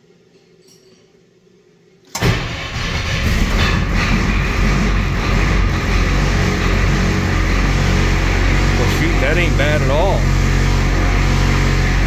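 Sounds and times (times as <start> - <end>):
diesel engine starting and running: 2.1 - 12.0.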